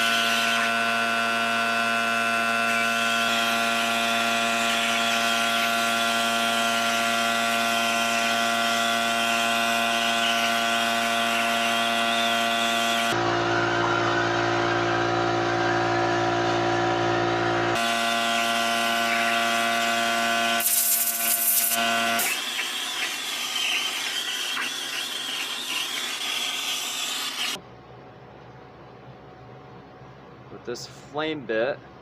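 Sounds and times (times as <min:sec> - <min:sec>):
power carving tool cutting wood: 0:00.0 - 0:16.0, 0:17.7 - 0:27.6.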